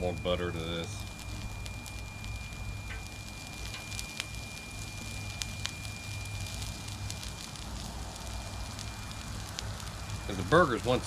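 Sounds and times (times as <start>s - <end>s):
low steady rumble: 0.0s - 11.0s
onions sizzling on a griddle: 0.0s - 11.0s.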